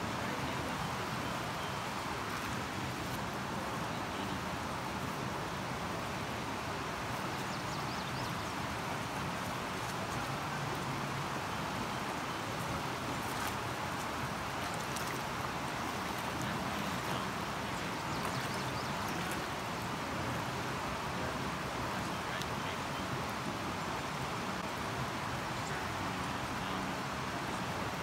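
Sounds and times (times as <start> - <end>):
creek rushing over rocks: 0.0 - 28.0.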